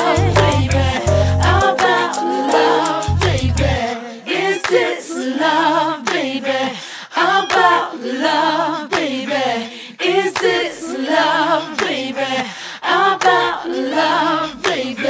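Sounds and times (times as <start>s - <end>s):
voices singing harmonies: 0.0s - 15.0s.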